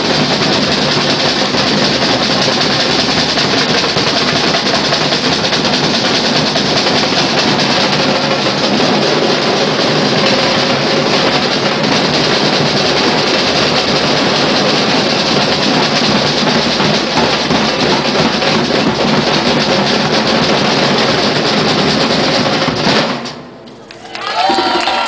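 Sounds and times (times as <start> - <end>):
bass and snare drums playing: 0.0 - 23.6.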